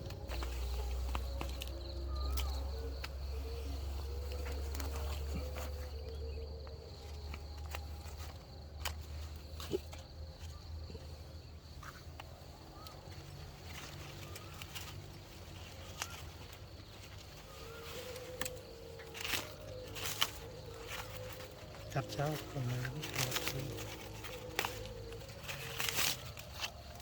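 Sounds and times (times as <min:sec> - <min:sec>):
bird chirps: 0:00.0 - 0:27.0
handling clicks and rustles: 0:00.0 - 0:27.0
high insect drone: 0:00.0 - 0:27.0.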